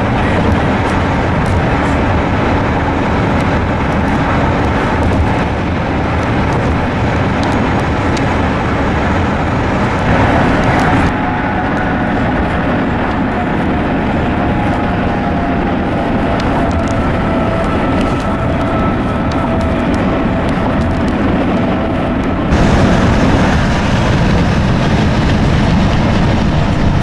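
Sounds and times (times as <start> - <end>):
vehicle running rumble: 0.0 - 27.0.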